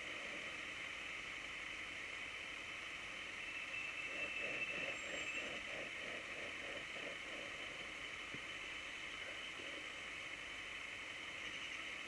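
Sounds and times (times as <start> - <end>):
soft rhythmic pulses: 0.0 - 12.0
traffic hiss: 0.0 - 12.0.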